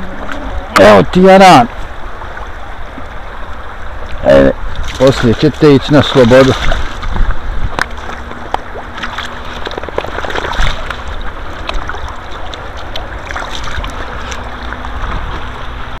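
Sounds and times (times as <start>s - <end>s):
river water sloshing and splashing: 0.0s - 16.0s.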